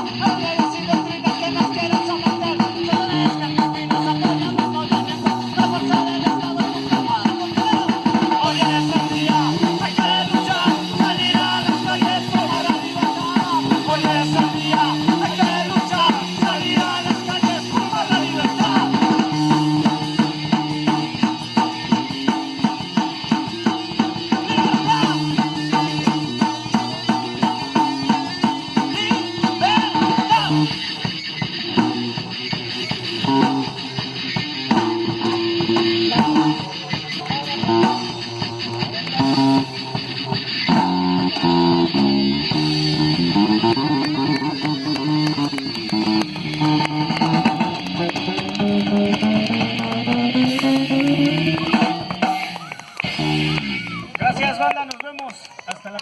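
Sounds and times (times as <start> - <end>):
drum kit beat: 0.0 - 55.2
rock band playing: 0.0 - 56.0.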